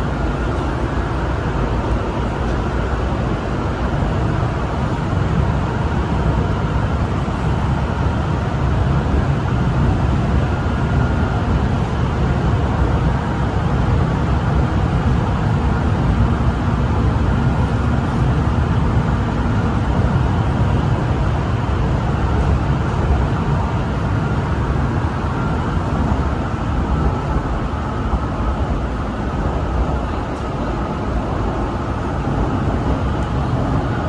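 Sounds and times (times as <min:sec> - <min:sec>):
faint steady whine: 0:00.0 - 0:34.0
train rumble and rush: 0:00.0 - 0:34.0.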